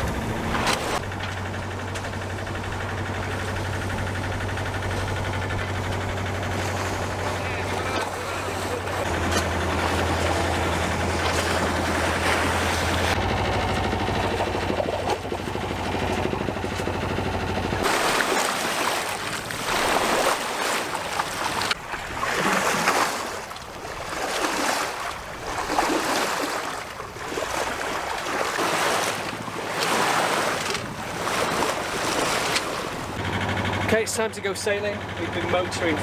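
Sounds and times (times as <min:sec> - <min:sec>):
water rushing past hull: 0:00.0 - 0:34.1
boat engine running: 0:00.0 - 0:36.0.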